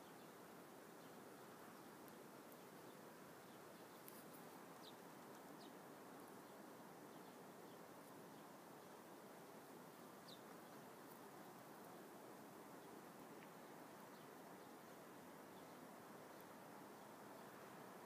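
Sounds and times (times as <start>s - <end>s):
low background hiss: 0.0s - 18.0s.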